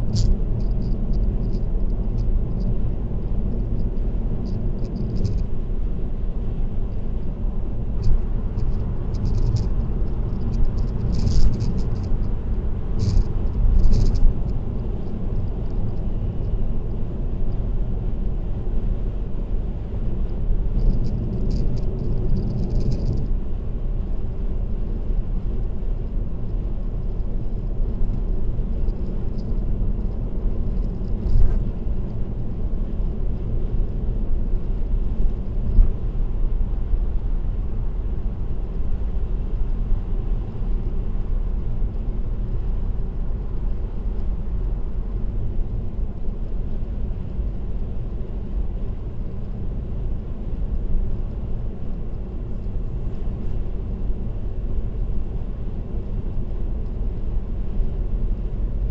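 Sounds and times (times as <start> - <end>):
car road and tyre rumble: 0.0 - 58.9.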